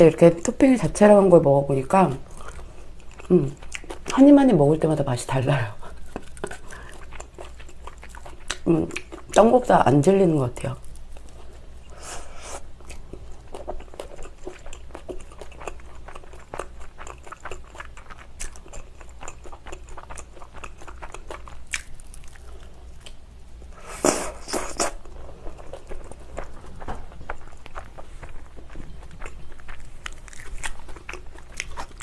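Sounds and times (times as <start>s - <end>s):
chewing crunchy pizza: 1.9s - 4.8s, 5.4s - 9.5s, 12.8s - 32.0s.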